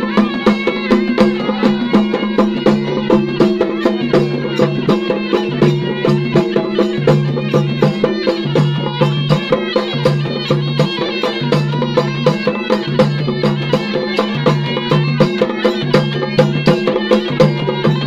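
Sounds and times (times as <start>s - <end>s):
fast even drum beat: 0.0s - 18.0s
wavering wind instrument melody: 0.0s - 18.0s.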